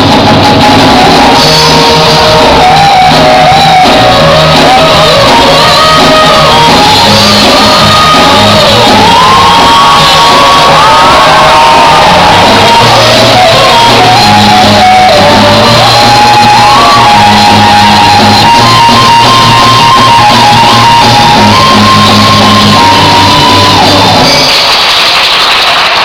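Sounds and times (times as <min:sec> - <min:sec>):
live rock band playing: 0:00.0 - 0:24.7.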